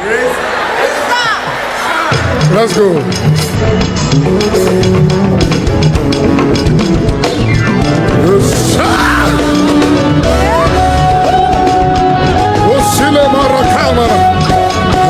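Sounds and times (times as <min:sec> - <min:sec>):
drum kit: 0:01.4 - 0:15.0
live band playing: 0:02.1 - 0:15.0
sustained keyboard or guitar notes: 0:02.3 - 0:15.0.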